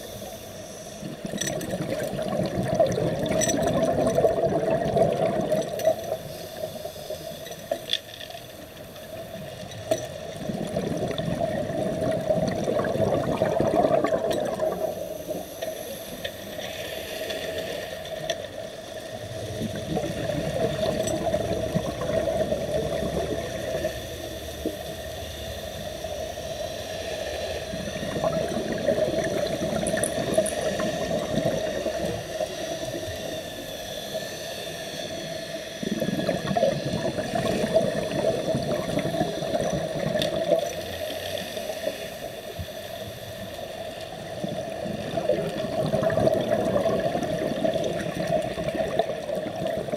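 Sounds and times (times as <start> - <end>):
underwater rushing water: 0.0 - 7.8, 8.6 - 49.9
steady hum: 0.0 - 49.9.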